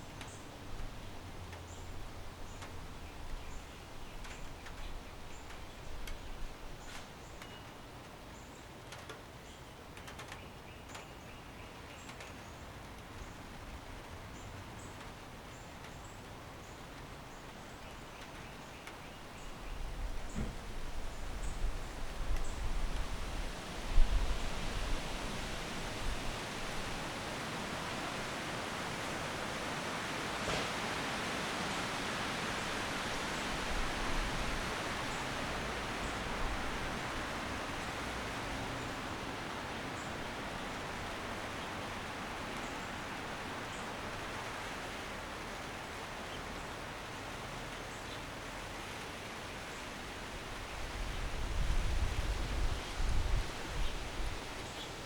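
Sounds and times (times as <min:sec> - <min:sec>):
background hiss: 0:00.0 - 0:55.0
wind rushing through trees: 0:00.0 - 0:55.0.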